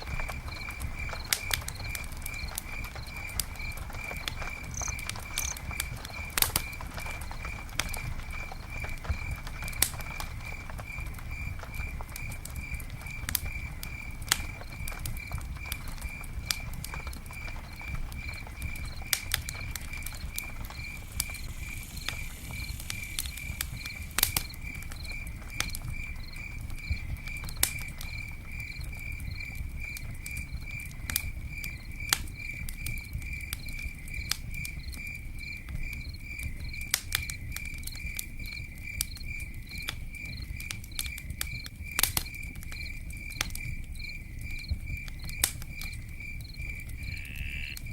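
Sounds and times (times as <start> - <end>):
campfire crackling and popping: 0.0 - 47.9
cricket-like insect chirping: 0.0 - 47.9.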